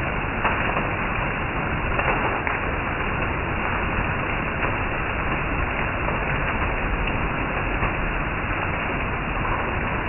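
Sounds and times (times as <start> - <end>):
heavy rain on a roof: 0.0 - 10.0.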